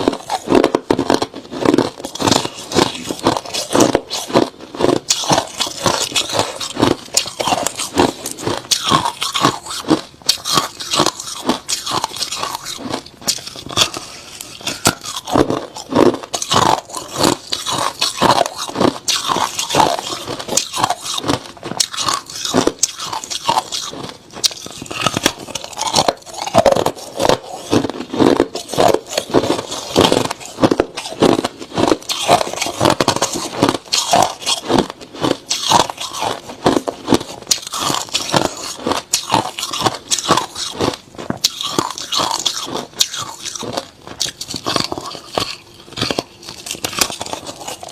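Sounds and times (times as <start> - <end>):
chewing crushed ice: 0.0 - 47.9.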